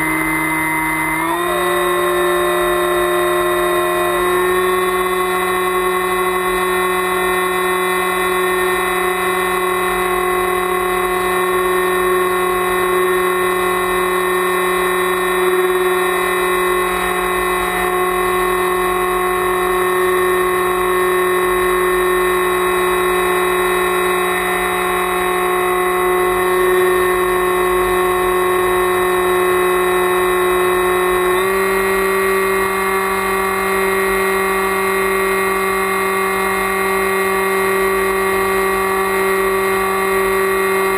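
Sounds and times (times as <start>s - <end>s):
electric motor and propeller whine: 0.0s - 40.9s.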